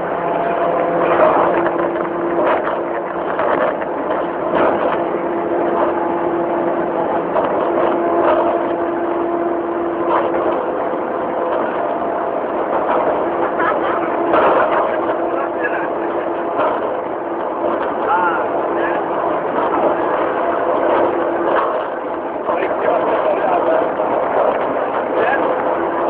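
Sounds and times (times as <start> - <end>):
heavy machinery humming: 0.0 - 26.0
machinery knocks: 0.0 - 26.0.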